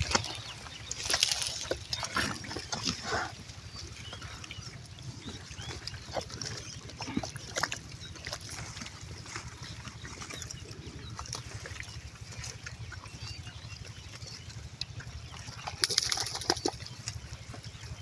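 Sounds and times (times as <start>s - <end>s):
pigs wet clicking and smacking: 0.0s - 18.0s
steady low rumble: 0.0s - 18.0s.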